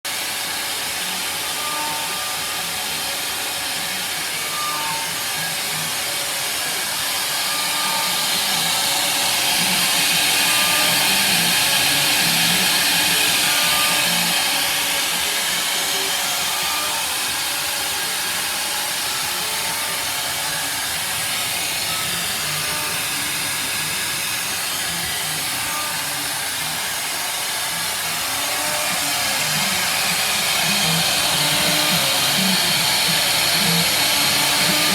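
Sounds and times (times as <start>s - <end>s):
faint motor tones: 0.1s - 34.9s
machine motor hiss: 0.1s - 34.9s.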